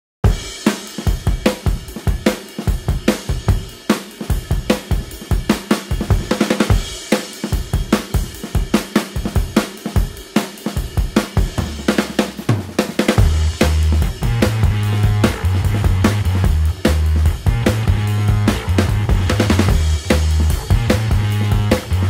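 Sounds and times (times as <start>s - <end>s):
upbeat drum kit beat: 0.2s - 22.0s.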